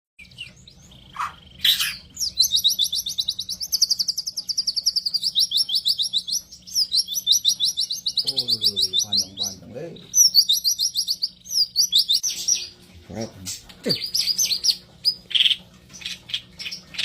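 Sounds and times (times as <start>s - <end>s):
bird singing rattling notes: 0.2s - 12.8s, 13.9s - 17.0s.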